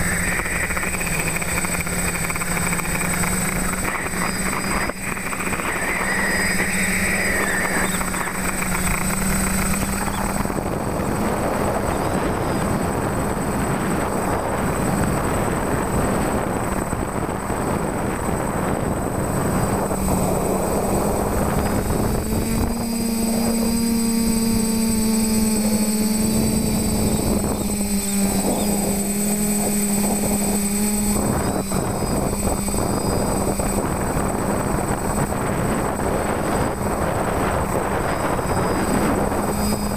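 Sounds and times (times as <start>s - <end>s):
quadcopter motors and propellers: 0.0s - 39.9s.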